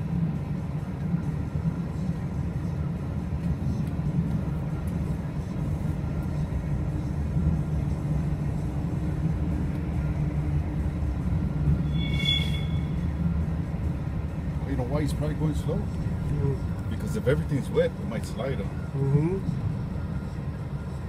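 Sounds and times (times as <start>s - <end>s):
diesel locomotives passing: 0.0s - 21.0s.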